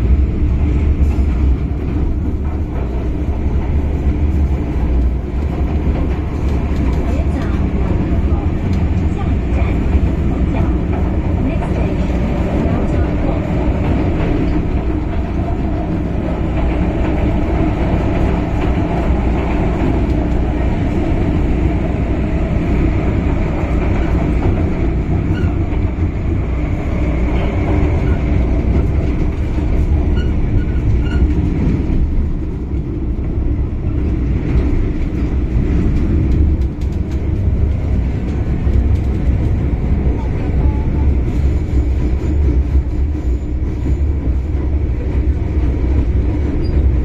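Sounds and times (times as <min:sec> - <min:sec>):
rail clatter: 0:00.0 - 0:47.0
train wheels rumbling: 0:00.0 - 0:47.0.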